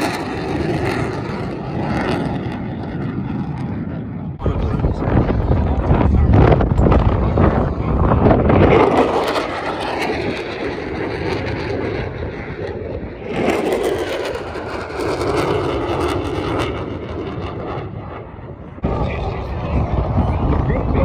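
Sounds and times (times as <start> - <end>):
airplane engine rushing: 0.0 - 21.0.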